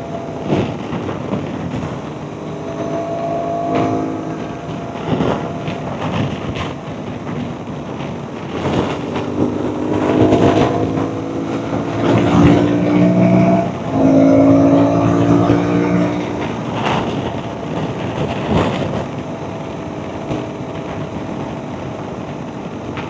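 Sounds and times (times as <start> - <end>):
motorcycle engine: 0.0 - 22.3
wind rush: 0.0 - 23.0.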